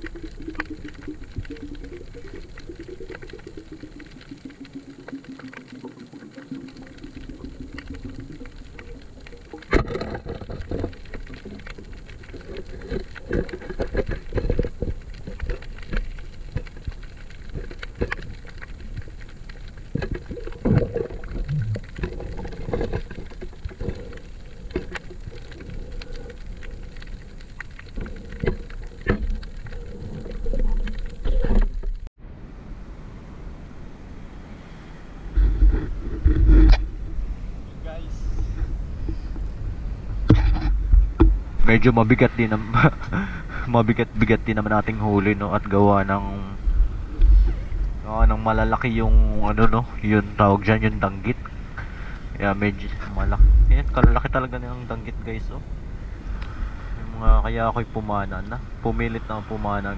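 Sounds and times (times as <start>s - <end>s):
muffled underwater water noise: 0.0s - 59.9s.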